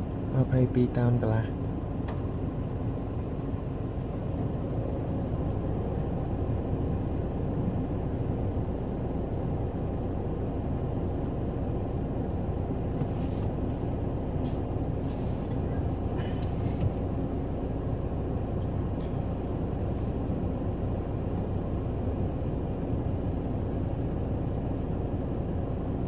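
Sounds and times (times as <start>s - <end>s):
diesel engine low drone: 0.0s - 26.0s.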